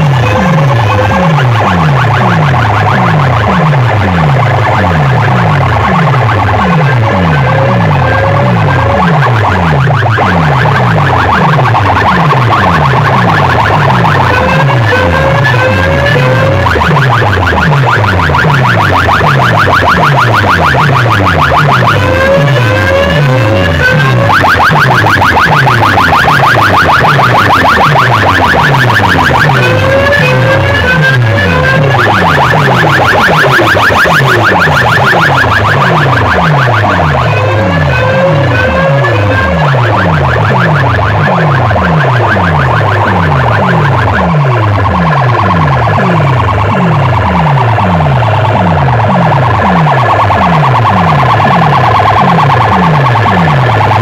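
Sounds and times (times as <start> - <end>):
electronic siren sound effect: 0.0 - 54.0
falling bass sweep: 0.0 - 54.0.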